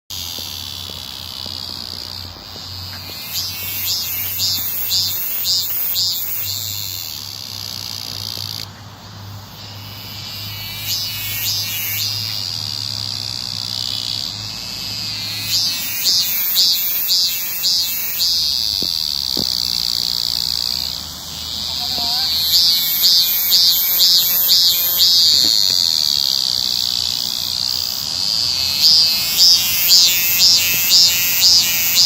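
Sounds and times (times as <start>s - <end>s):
cicadas buzzing: 0.0s - 32.0s
pulsing cicada calls: 0.0s - 32.0s.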